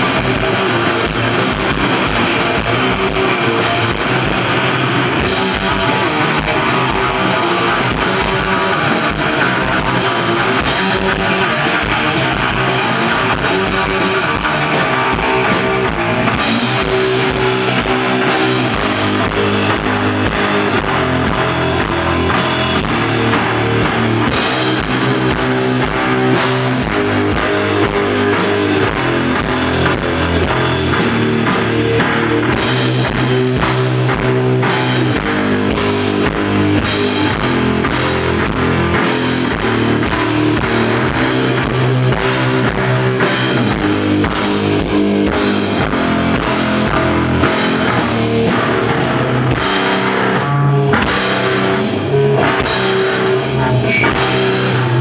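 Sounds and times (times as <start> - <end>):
heavy low bass line: 0.0 - 55.0
live rock band playing: 0.0 - 55.0.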